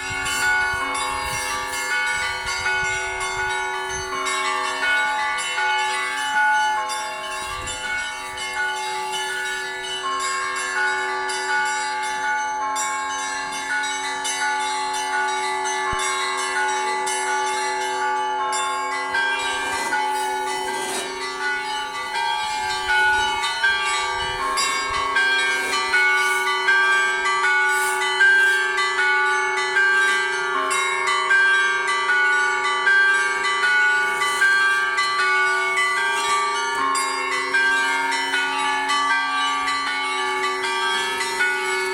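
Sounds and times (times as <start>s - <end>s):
high bells struck quickly: 0.0s - 41.9s
low church bells humming: 0.0s - 41.9s.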